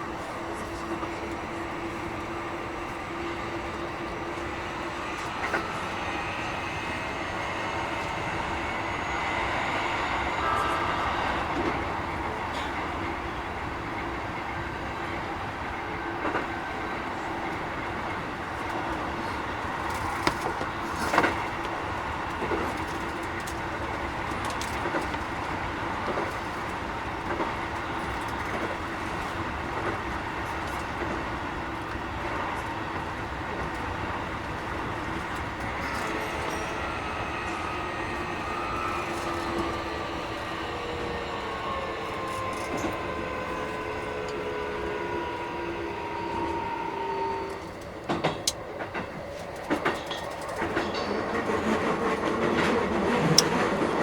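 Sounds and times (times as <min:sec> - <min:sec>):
electric train motor hum: 0:00.0 - 0:54.0
wheels clacking over rail joints: 0:09.4 - 0:54.0.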